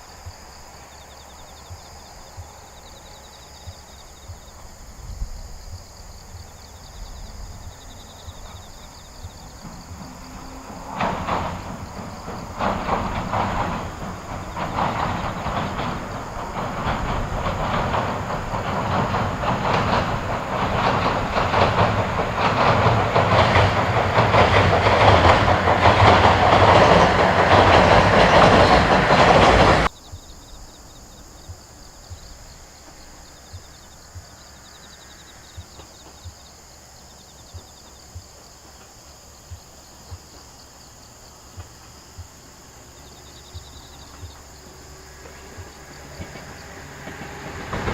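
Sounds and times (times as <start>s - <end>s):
faint insect chirping: 0.0s - 47.9s
train wheels clattering on bridge: 0.0s - 47.9s.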